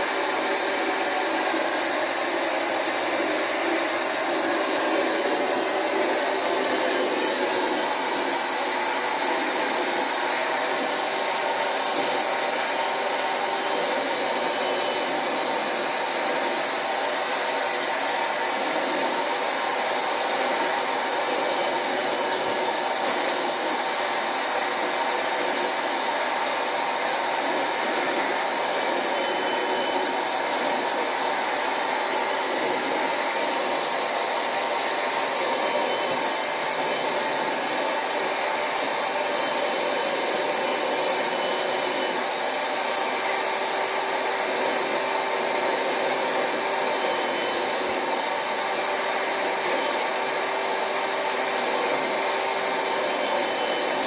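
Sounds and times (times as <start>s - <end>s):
carpet extractor vacuum motor: 0.0s - 54.0s.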